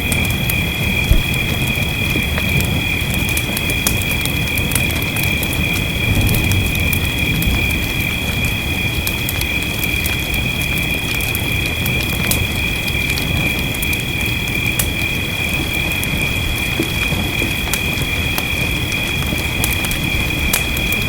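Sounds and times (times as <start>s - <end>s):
fireplace crackling and popping: 0.0s - 21.0s
rain: 0.0s - 21.0s.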